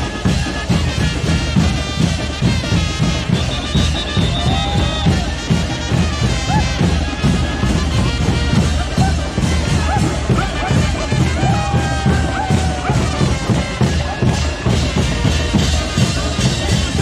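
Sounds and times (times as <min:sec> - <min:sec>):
brass band music: 0:00.0 - 0:17.0
steady drum beat: 0:00.0 - 0:17.0.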